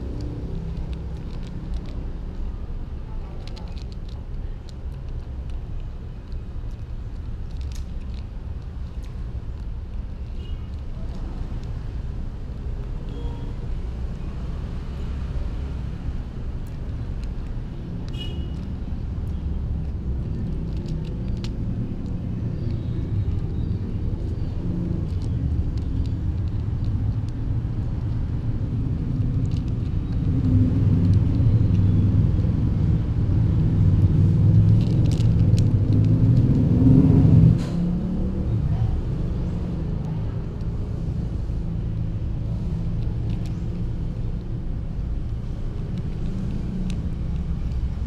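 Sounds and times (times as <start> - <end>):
steady low rumble: 0.0 - 14.7, 15.4 - 48.0.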